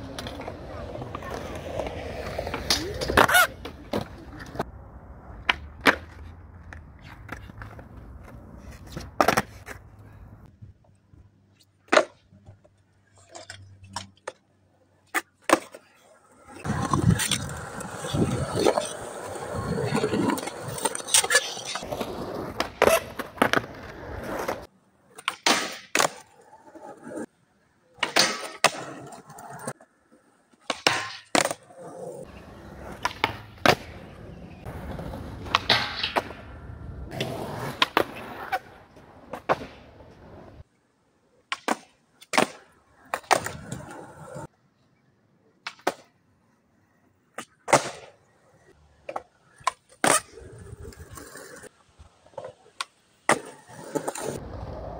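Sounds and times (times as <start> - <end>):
skateboard wheels rolling on concrete: 0.0 - 54.9.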